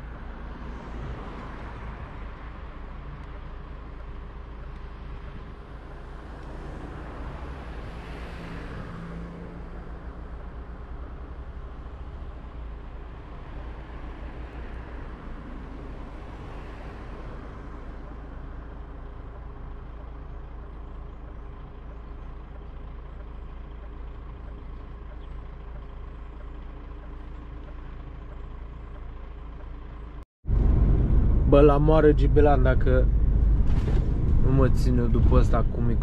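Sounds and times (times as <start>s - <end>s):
truck engine and road noise: 0.0s - 36.0s.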